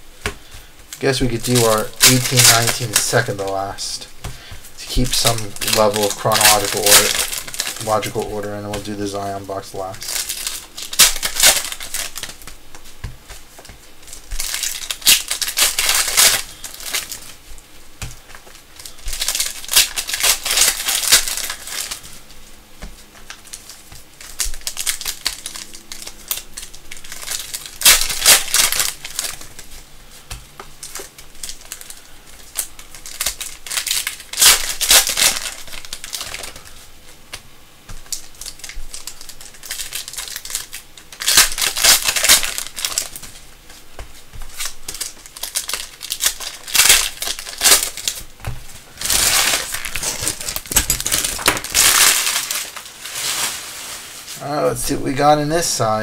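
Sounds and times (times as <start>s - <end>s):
wrappers crinkling and tearing: 0.0s - 56.0s.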